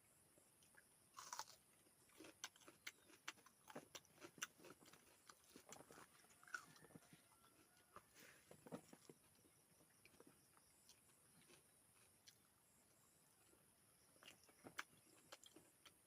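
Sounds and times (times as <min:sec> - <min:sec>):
person chewing crunchy food: 0:00.5 - 0:16.0.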